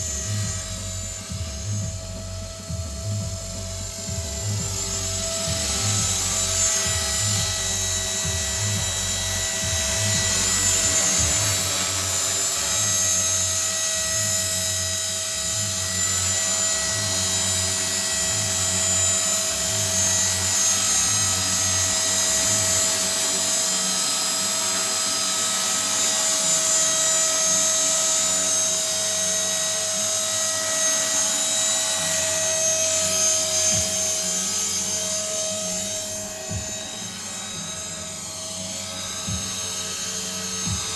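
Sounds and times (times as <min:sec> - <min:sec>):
helicopter rotors whirring: 0:00.0 - 0:40.9
motor high whine: 0:00.0 - 0:40.9.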